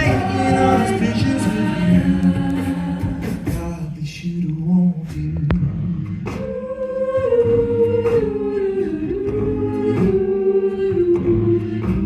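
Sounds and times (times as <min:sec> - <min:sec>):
backing voices singing: 0:00.0 - 0:04.5, 0:05.1 - 0:12.0.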